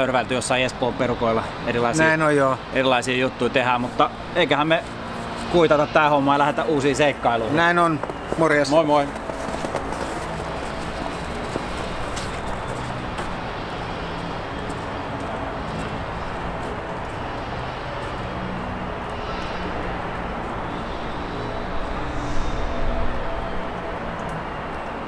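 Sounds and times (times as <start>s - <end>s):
distant traffic: 0.0s - 25.0s.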